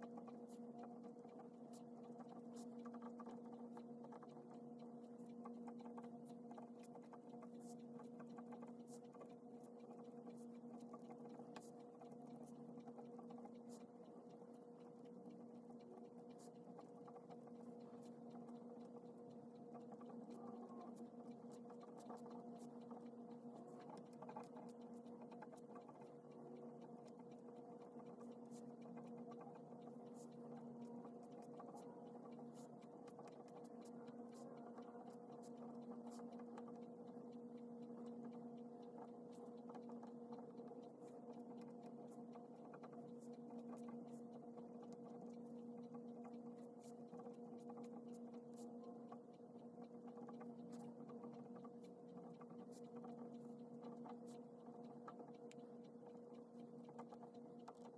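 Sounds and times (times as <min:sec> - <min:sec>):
faint electrical hum: 0:00.0 - 0:57.9
faint ticks: 0:00.0 - 0:57.9.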